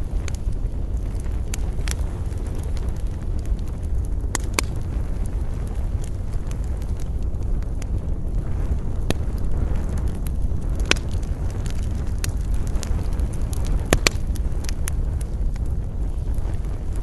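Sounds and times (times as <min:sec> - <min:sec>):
campfire wood crackling: 0:00.0 - 0:17.0
low wind rumble: 0:00.0 - 0:17.0.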